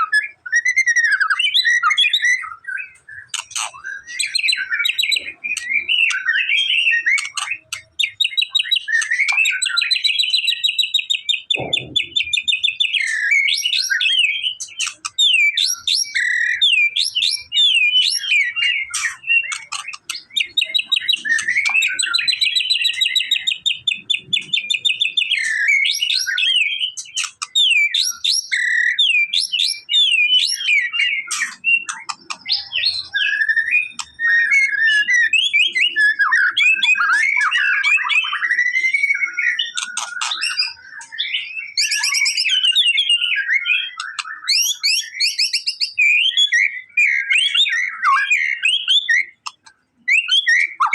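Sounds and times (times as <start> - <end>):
bird singing whistled phrases: 0.0 - 50.9.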